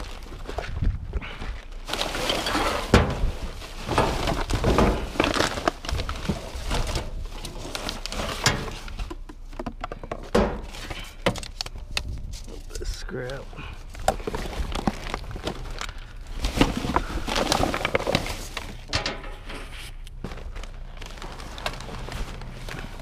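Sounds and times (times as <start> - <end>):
plastic bags and clothing rustling: 0.0 - 23.0.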